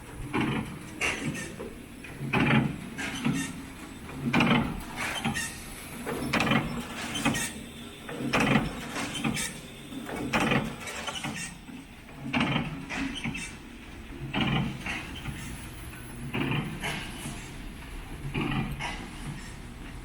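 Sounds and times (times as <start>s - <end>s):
low machine hum: 0.0s - 20.0s
wrapping machine mechanical stroke: 0.0s - 20.0s.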